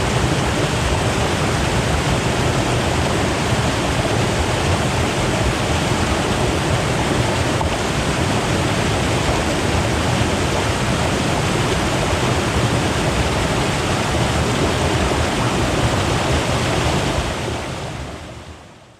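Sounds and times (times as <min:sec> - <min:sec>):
river water rushing over rocks: 0:00.0 - 0:18.6.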